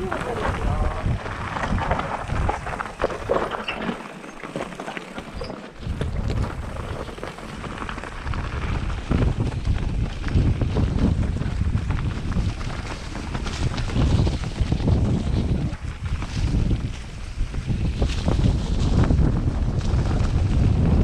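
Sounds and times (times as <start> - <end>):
wind buffeting microphone: 0.0 - 3.8, 5.3 - 21.0
tyres crunching over stones: 0.0 - 20.7
bike rattling: 0.0 - 21.0.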